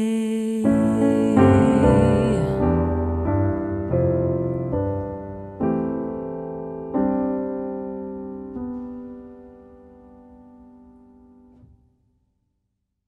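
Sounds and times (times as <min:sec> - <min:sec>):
grand piano chords: 0:00.0 - 0:11.9.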